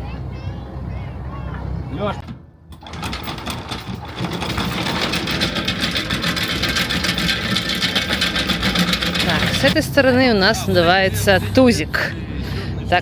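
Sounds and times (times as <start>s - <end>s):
boat motor running: 0.6s - 13.0s.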